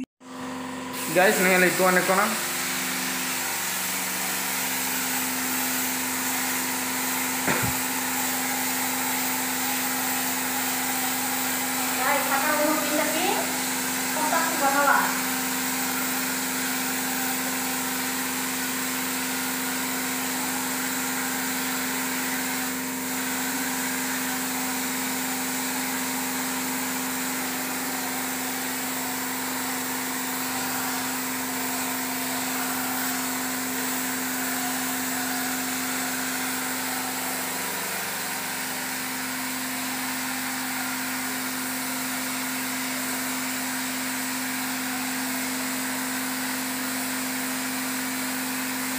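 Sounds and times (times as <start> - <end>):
air compressor humming: 0.0 - 48.9
paint spray gun hissing: 0.9 - 48.9.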